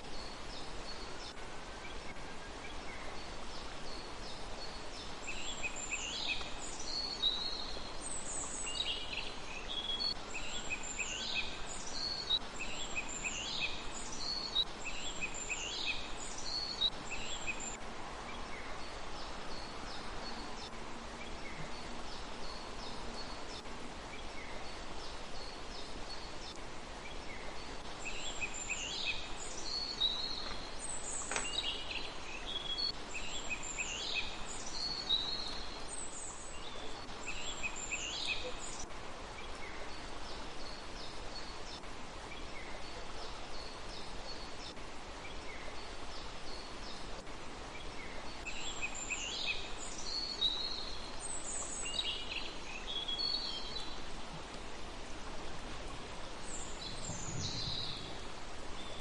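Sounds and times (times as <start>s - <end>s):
outdoor background hiss: 0.0s - 59.0s
songbird singing: 0.0s - 59.0s.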